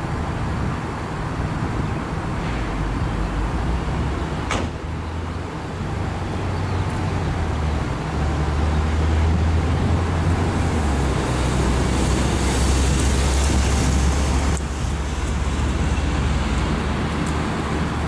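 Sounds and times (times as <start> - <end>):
loud low motor rumble: 0.0 - 18.0.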